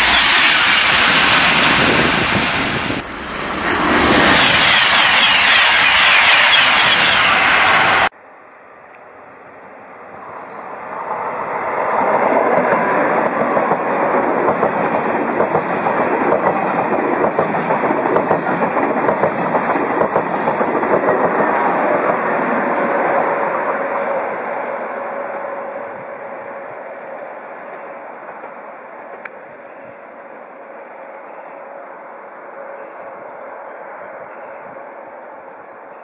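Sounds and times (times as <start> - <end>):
high-speed train passing: 0.0 - 36.0.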